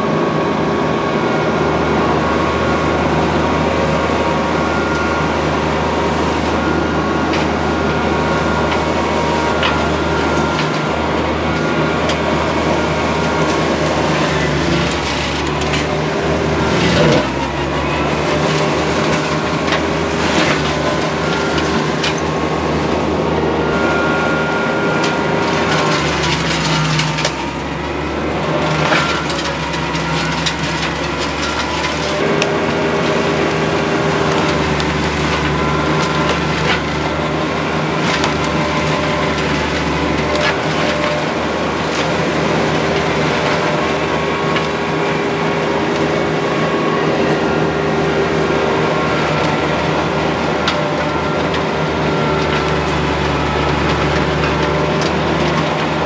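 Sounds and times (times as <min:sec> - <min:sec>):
forestry mulcher droning: 0:00.0 - 0:56.0.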